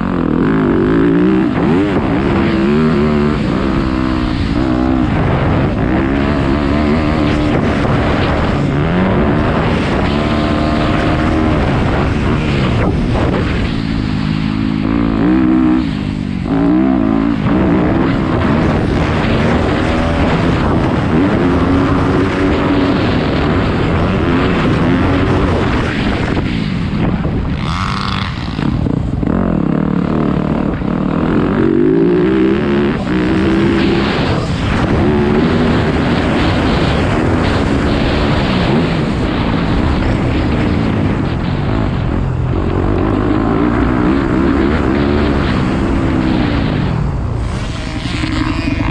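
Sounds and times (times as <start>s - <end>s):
dirt bike engine revving: 0.0s - 48.9s
wind noise on microphone: 0.0s - 48.9s.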